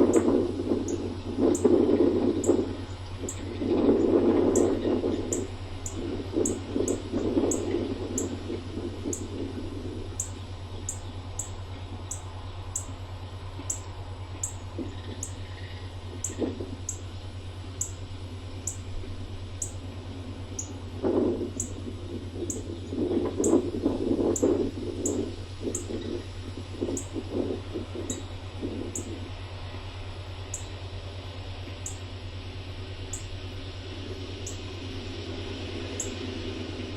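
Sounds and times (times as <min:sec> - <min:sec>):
wind gusts buffeting microphone: 0:00.0 - 0:36.9.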